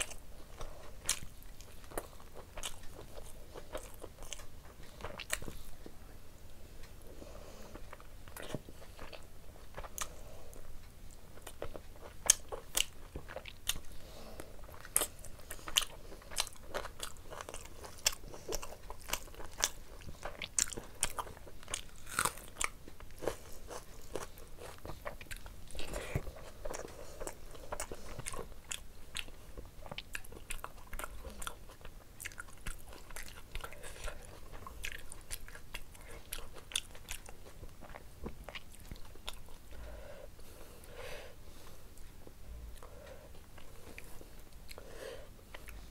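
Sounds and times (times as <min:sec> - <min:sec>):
person chewing food: 0:00.0 - 0:06.0, 0:06.8 - 0:45.9.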